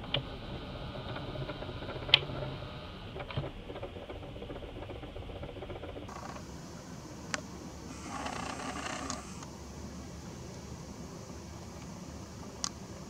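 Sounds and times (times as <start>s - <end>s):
steady hiss: 0.0s - 3.7s, 4.8s - 13.0s.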